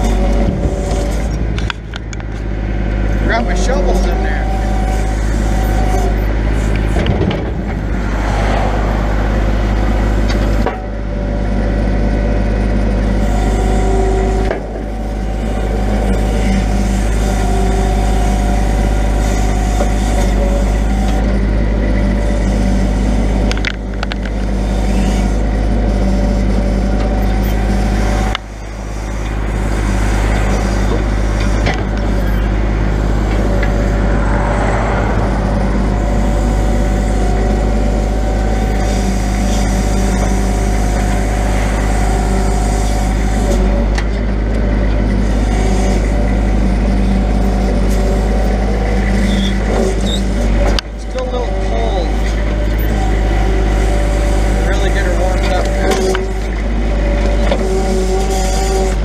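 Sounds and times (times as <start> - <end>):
hydraulic whine: 0.0 - 59.0
truck engine rumble: 0.0 - 59.0.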